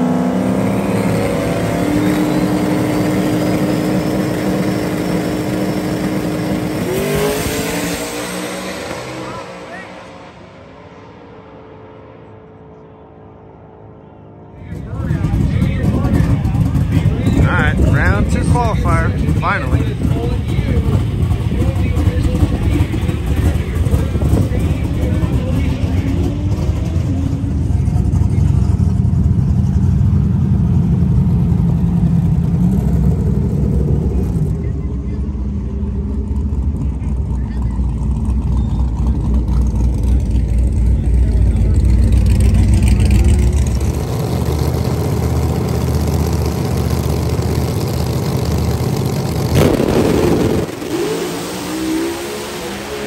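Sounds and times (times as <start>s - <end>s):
car engine rumbling: 0.0s - 13.2s, 14.1s - 53.0s.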